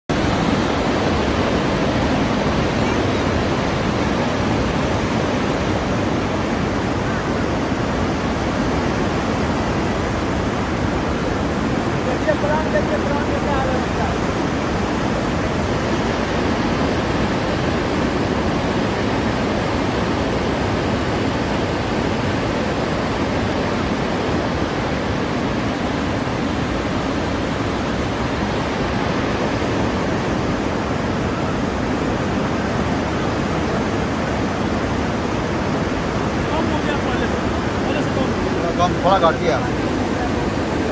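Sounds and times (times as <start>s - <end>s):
floodwater rushing in river: 0.1s - 40.9s.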